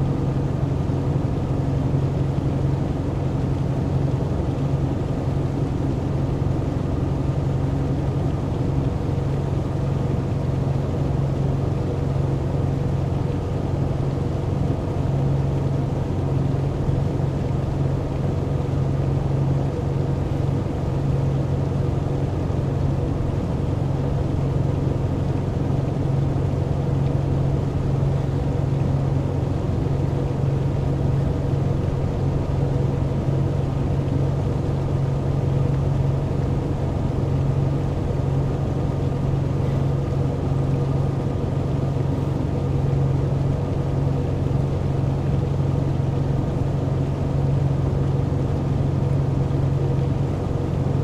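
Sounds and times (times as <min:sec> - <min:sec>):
motor boat engine humming: 0:00.0 - 0:51.0.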